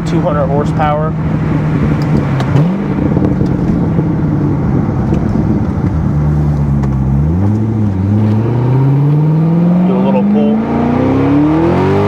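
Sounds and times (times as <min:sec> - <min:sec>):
car engine revving: 0:00.0 - 0:12.0
road noise: 0:00.0 - 0:12.0
wind noise: 0:00.0 - 0:12.0.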